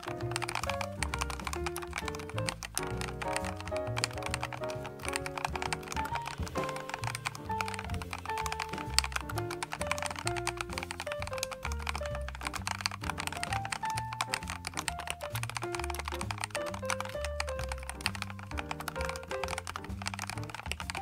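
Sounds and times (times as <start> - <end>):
background music with melody: 0.0 - 21.0
mechanical keyboard typing: 0.0 - 21.0.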